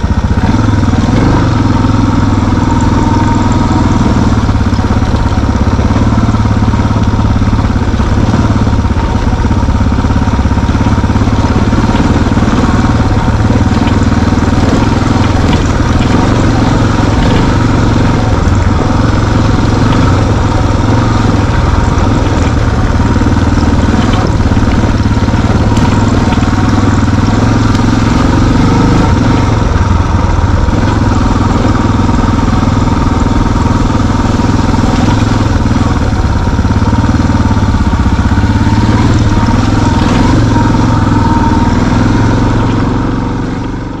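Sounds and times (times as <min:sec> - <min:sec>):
off-road vehicle engine running: 0:00.0 - 0:44.0.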